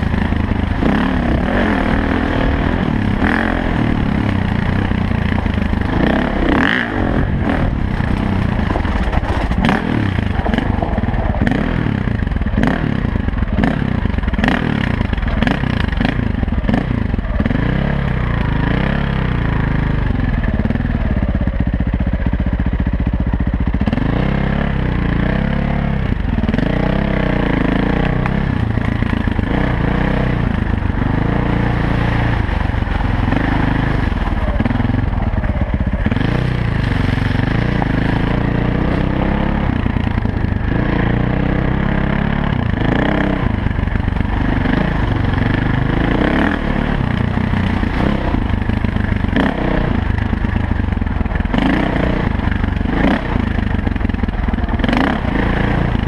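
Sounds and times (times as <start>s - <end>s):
dirt bike engine revving: 0.0s - 21.2s, 23.7s - 56.0s.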